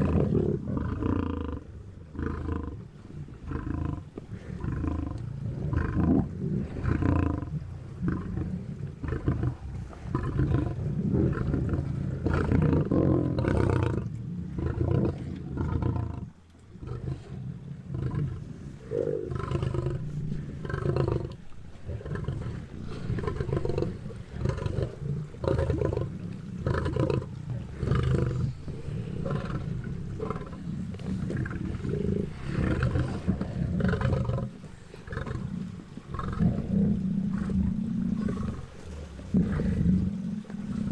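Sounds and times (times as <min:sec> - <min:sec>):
lions growling: 0:00.0 - 0:40.9.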